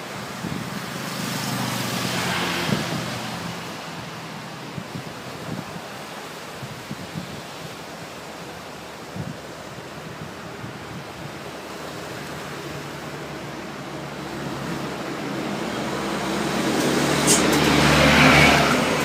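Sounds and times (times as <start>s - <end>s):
background wash: 0.0s - 19.0s
tyre noise on road: 0.0s - 19.0s
vehicle engine hum: 0.0s - 19.0s.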